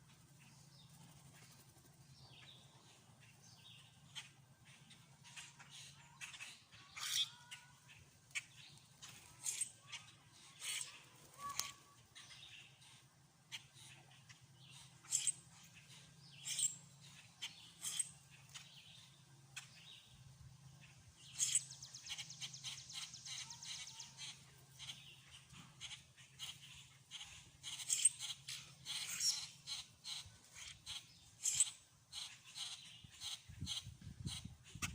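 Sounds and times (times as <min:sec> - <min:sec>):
songbirds chirping: 0:00.0 - 0:34.9.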